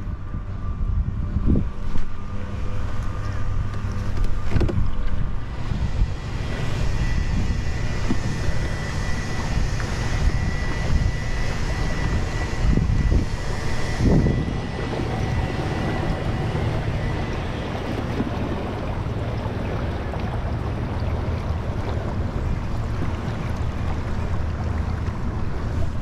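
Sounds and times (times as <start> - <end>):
faint high whine: 0.0 - 26.0
wind on microphone: 0.0 - 26.0.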